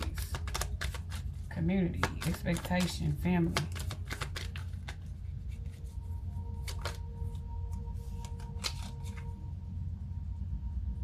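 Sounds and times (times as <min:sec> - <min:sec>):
cards shuffling and clicking: 0:00.0 - 0:09.4
steady low hum: 0:00.0 - 0:11.0.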